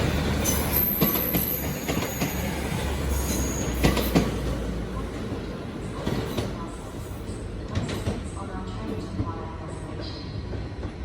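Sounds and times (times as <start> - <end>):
diesel train rumble: 0.0 - 8.8.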